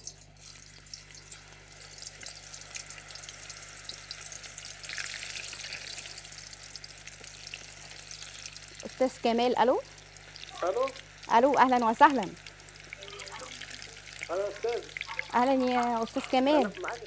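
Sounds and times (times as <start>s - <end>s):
potatoes sizzling in hot oil: 0.0s - 17.0s.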